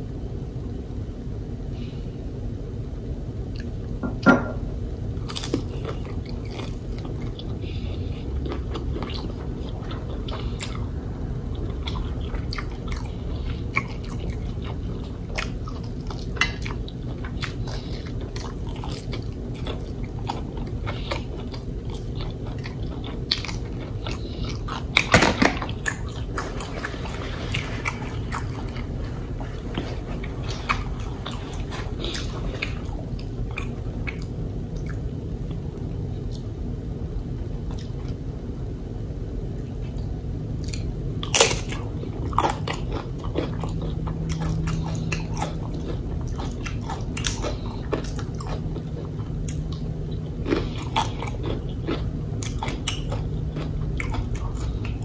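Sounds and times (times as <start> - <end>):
biting and chewing crunchy food: 5.1 - 35.7, 40.6 - 55.0.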